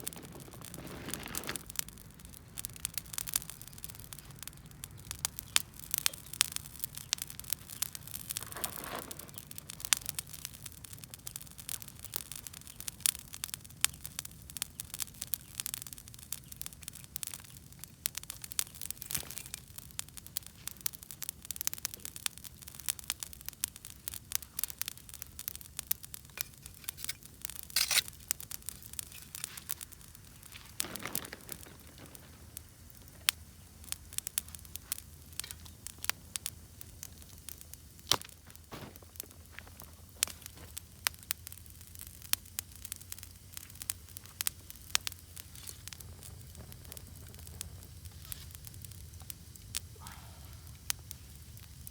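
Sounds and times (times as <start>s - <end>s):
fire hissing: 0.0s - 51.9s
wood fire crackling: 0.0s - 51.9s.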